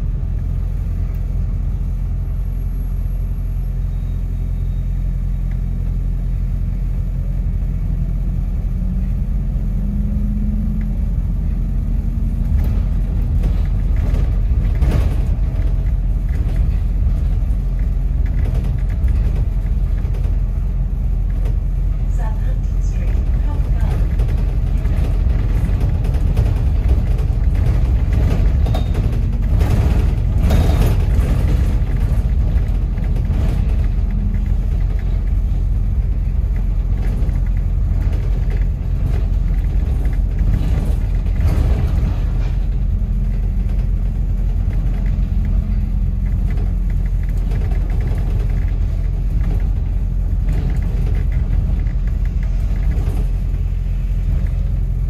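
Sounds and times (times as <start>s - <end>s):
bus engine and road rumble: 0.0s - 55.0s
bus body rattles: 4.3s - 55.0s.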